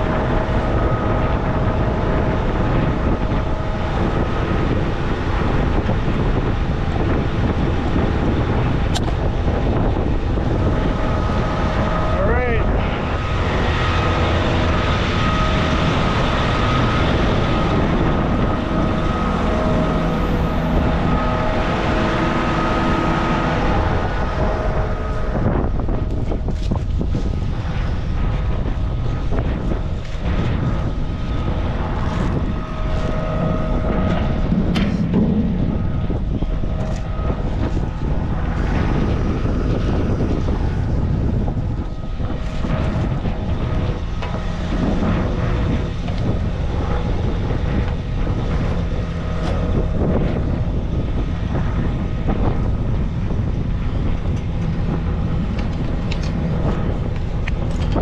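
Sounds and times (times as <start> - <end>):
machinery droning with whine: 0.0 - 58.0.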